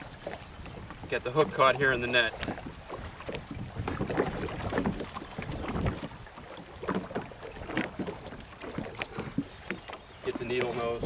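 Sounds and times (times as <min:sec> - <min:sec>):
knocks and clicks in a boat: 0:00.0 - 0:11.0
wind rumble on microphone: 0:00.0 - 0:11.0.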